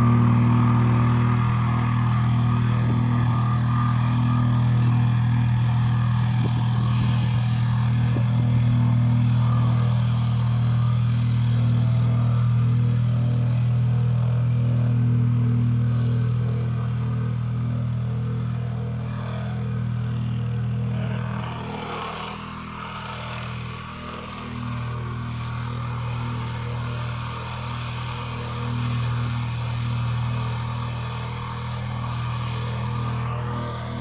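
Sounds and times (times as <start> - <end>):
plate compactor engine running: 0.0 - 34.0.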